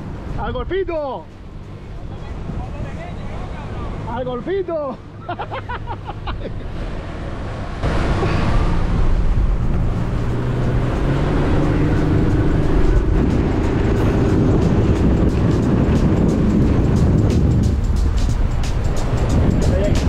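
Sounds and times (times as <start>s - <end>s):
rush of wind and water: 0.0s - 20.0s
boat motor droning: 1.2s - 19.7s.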